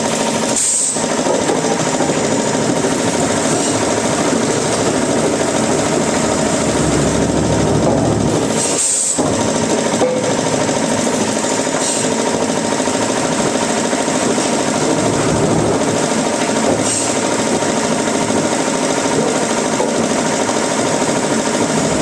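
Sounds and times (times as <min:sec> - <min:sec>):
woodworking machinery clatter: 0:00.0 - 0:22.0.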